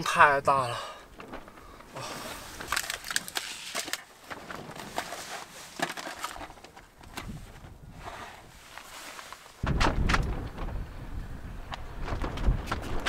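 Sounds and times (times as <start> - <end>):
crackling and rustling of handling: 0.6 - 13.0.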